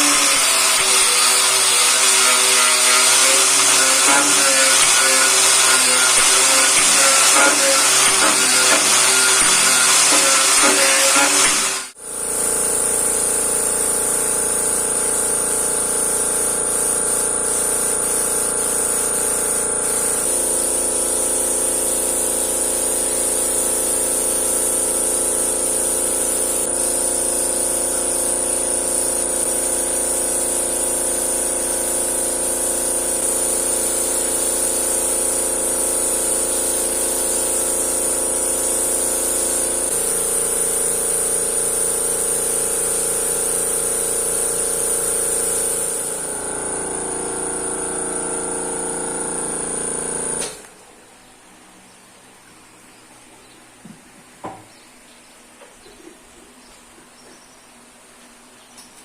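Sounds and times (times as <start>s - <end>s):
machine humming with high whine: 0.0s - 52.0s.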